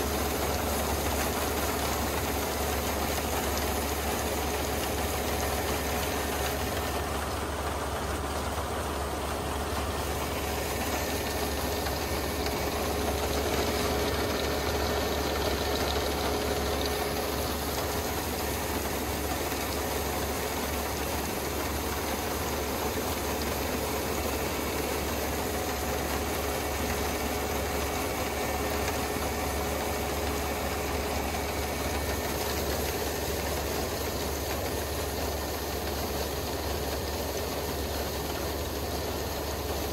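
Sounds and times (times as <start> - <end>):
diesel engine droning: 0.0 - 34.7.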